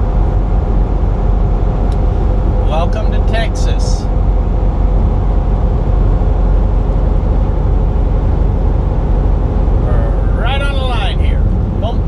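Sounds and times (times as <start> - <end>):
truck engine drone: 0.0 - 12.0
tyre road rumble: 0.0 - 12.0.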